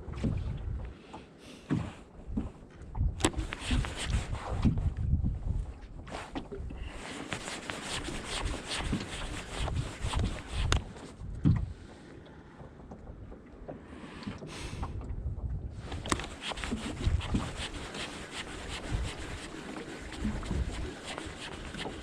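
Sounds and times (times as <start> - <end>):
wind on microphone: 0.0 - 1.0, 1.8 - 11.9, 14.7 - 22.0
water slapping boat hull: 0.0 - 22.0.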